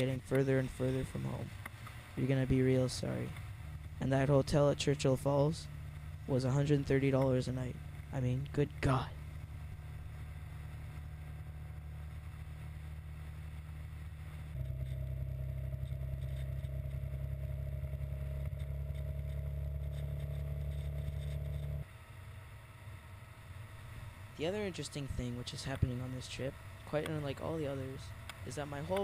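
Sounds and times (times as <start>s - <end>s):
motorcycle engine running steadily: 0.0s - 29.0s.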